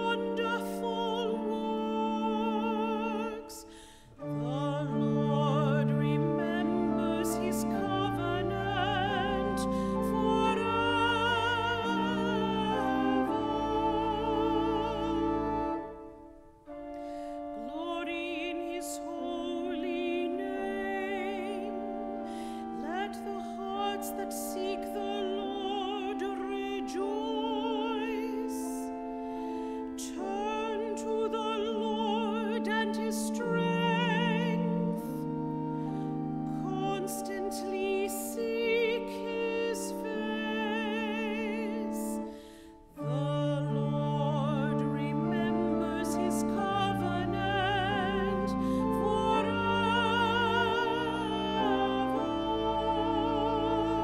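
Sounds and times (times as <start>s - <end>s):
woman singing with vibrato: 0.0s - 16.2s, 17.4s - 29.0s, 29.8s - 35.4s, 36.4s - 54.0s
organ chords: 0.0s - 54.0s.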